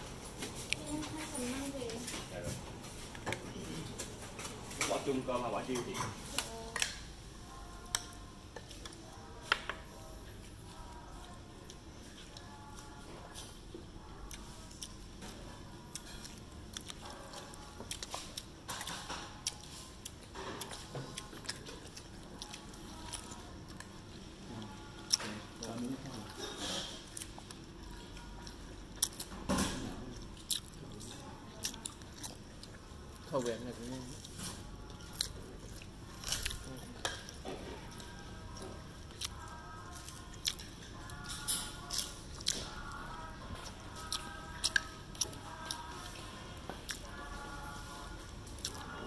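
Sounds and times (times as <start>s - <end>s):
low background noise: 0.0s - 49.0s.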